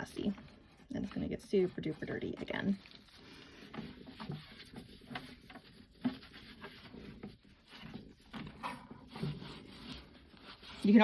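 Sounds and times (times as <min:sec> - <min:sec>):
rubbing and scuffing: 0:00.0 - 0:11.0.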